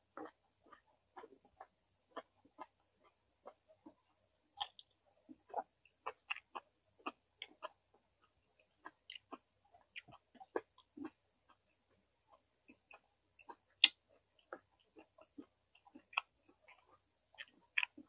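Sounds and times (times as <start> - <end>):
person chewing crunchy food: 0.1 - 4.0, 4.6 - 18.0.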